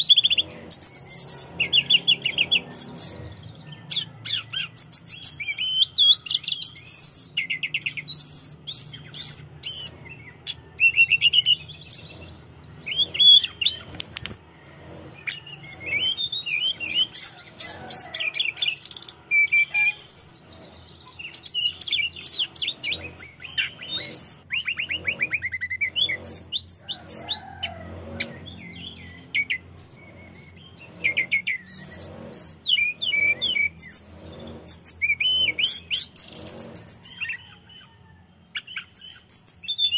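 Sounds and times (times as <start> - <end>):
bird singing whistles and trills: 0.0 - 27.3, 28.3 - 39.9.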